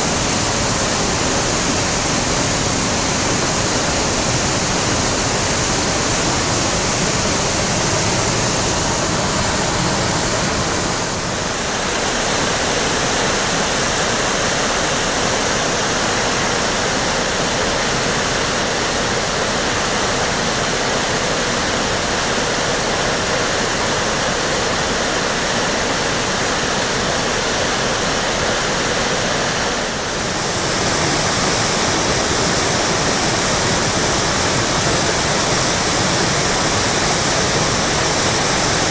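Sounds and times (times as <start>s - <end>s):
river water rushing over boulders: 0.0s - 38.9s.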